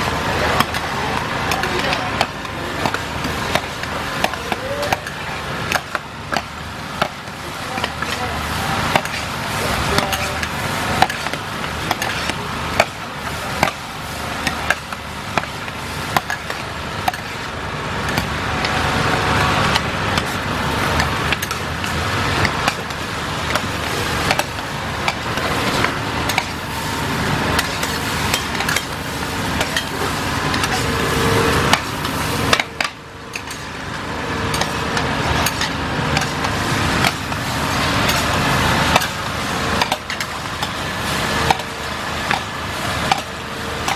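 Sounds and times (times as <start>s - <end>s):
spatulas scraping and clanking on woks: 0.0s - 43.9s
steady background noise: 0.0s - 43.9s.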